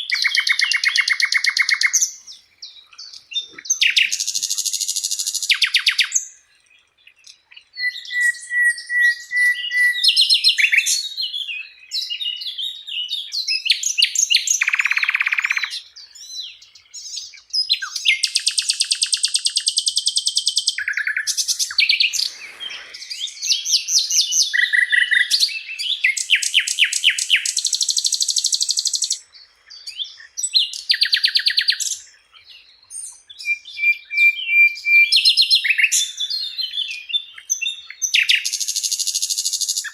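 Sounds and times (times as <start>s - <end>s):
flycatcher singing: 7.2s - 39.9s.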